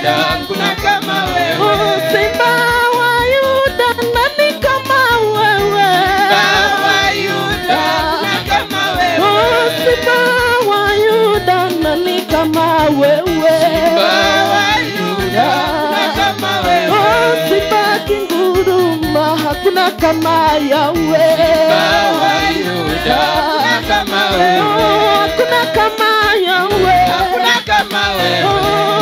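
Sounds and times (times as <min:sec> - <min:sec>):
electronic keyboard: 0:00.0 - 0:29.0
person singing: 0:00.0 - 0:29.0
pulsing bass beat: 0:00.0 - 0:29.0.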